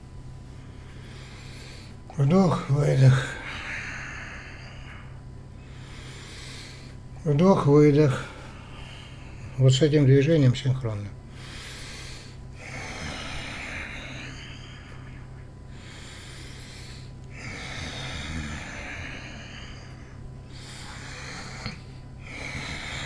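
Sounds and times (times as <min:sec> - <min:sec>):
man breathing deeply: 0:00.0 - 0:02.1, 0:02.8 - 0:07.2, 0:08.0 - 0:09.6, 0:11.2 - 0:23.0.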